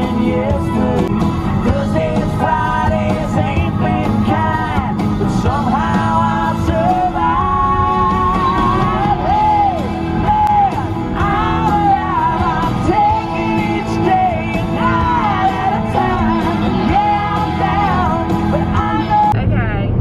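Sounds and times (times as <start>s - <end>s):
pop song with vocals: 0.0s - 20.0s
woman singing along loudly: 1.7s - 19.8s.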